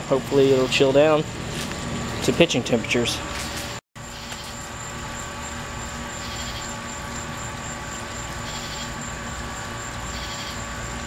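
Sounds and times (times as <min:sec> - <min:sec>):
electric pump humming: 0:00.0 - 0:11.0.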